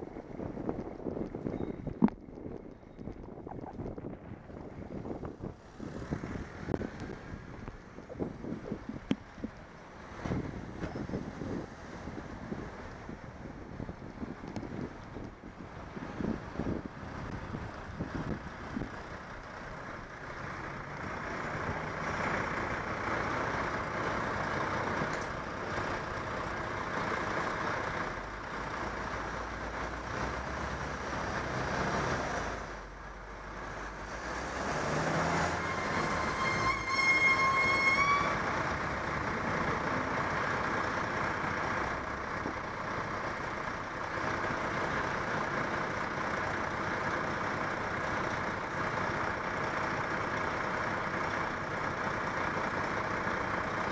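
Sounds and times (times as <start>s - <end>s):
road traffic: 0.0s - 53.9s.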